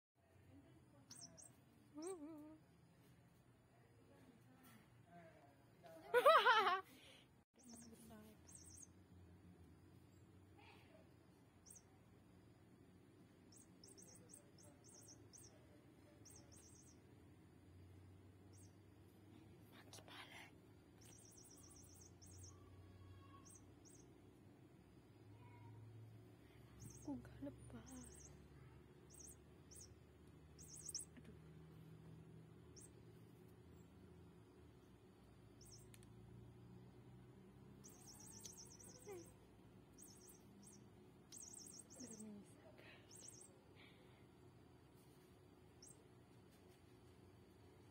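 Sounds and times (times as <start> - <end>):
low steady hum: 0.2 - 47.9
faint high-pitched chirps: 0.3 - 3.2, 7.5 - 9.3, 9.9 - 12.6, 13.2 - 47.9.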